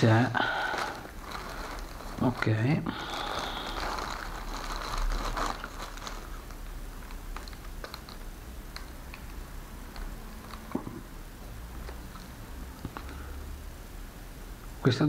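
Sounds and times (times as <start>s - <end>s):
plastic wrapping crinkling: 0.0s - 13.1s.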